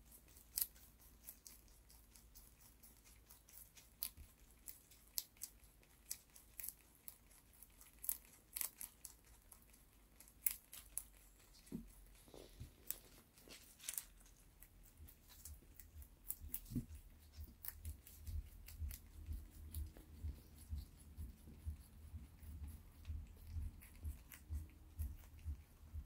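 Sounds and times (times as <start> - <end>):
rabbit chewing crunchy leaf: 0.0 - 26.0.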